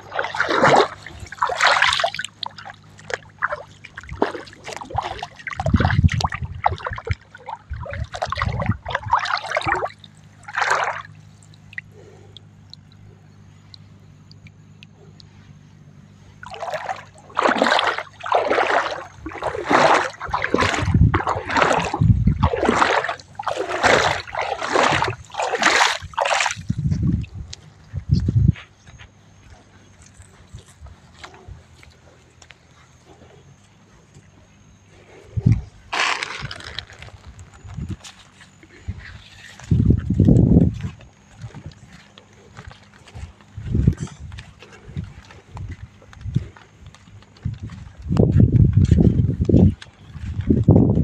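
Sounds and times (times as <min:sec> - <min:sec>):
muddy water splashing: 0:00.0 - 0:15.4, 0:16.2 - 0:28.2, 0:35.0 - 0:51.0.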